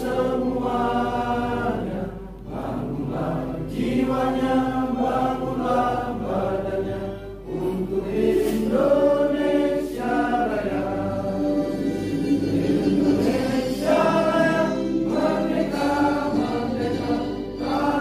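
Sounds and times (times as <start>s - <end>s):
people singing in unison: 0.0s - 18.0s.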